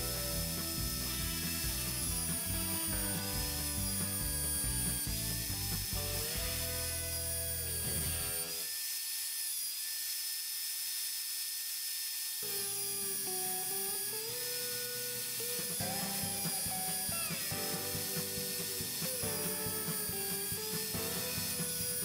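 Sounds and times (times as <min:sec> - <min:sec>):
belt sander grinding steel: 0:00.0 - 0:22.0.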